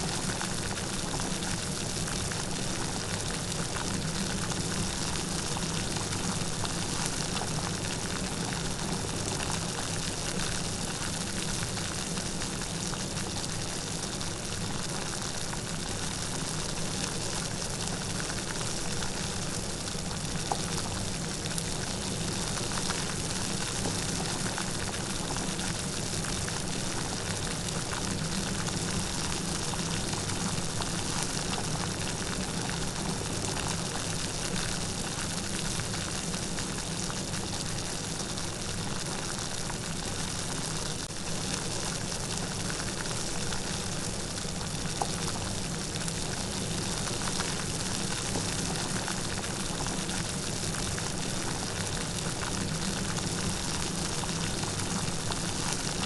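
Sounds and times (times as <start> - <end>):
light rain patter: 0.0 - 56.0.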